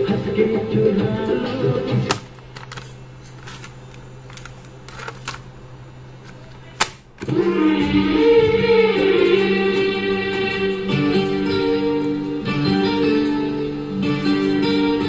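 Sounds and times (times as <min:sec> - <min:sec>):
cassette tape music: 0:00.0 - 0:15.0
speaker hum: 0:00.0 - 0:15.0.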